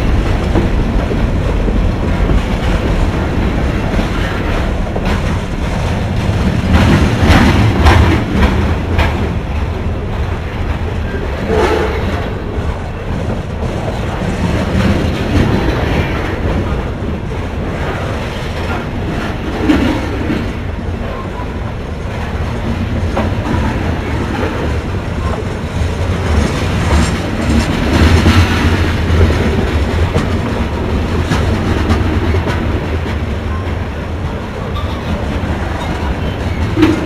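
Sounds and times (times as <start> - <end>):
railcars rolling on track: 0.0 - 37.0
wheels clacking over rail joints: 0.0 - 37.0.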